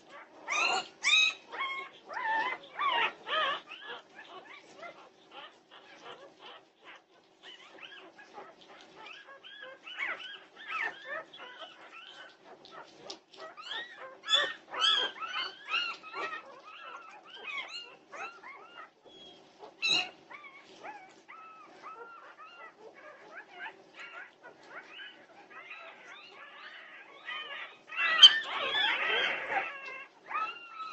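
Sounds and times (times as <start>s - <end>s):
puppies whimpering and squealing: 0.0s - 30.9s
puppy yelp: 0.0s - 30.9s.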